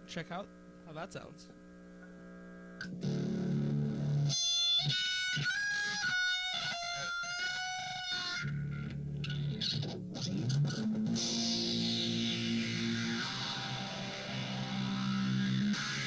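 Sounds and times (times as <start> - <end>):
distorted electric guitar: 2.8 - 16.0.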